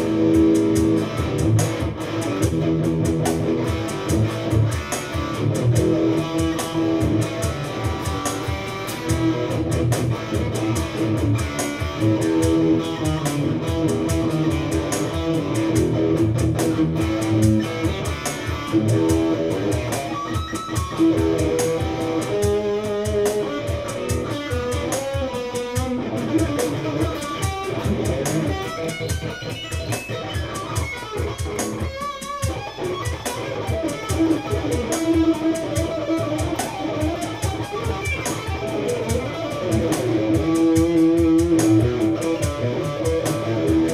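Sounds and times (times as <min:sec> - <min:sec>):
electric guitar jam: 0:00.0 - 0:43.9.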